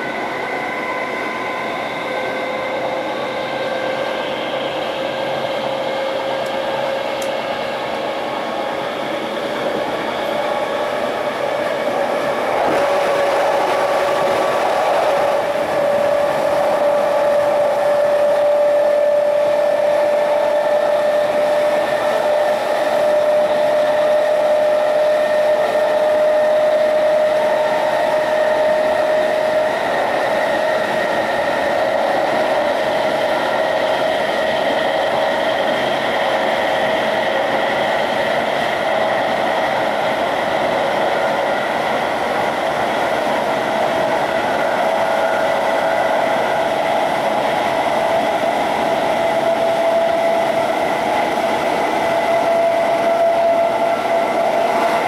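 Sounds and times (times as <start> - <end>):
rail running noise: 0.0 - 55.0.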